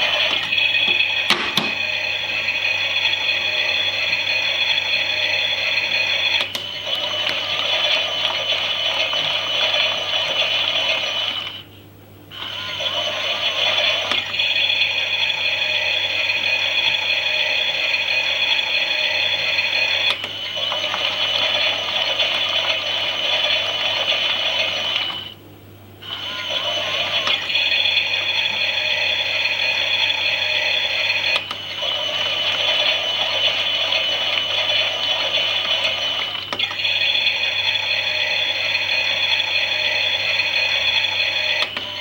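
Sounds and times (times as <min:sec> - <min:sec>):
toy motor whirring whine: 0:00.0 - 0:11.6, 0:12.3 - 0:25.4, 0:26.0 - 0:42.0.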